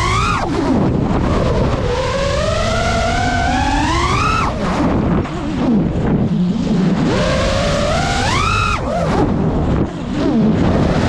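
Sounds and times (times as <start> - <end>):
drone motors whining: 0.0 - 11.0
wind rushing: 0.0 - 11.0.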